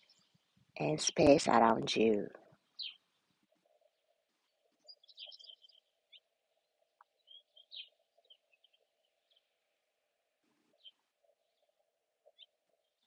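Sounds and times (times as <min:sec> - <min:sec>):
birds chirping and trilling: 0:01.0 - 0:09.6, 0:10.7 - 0:13.0.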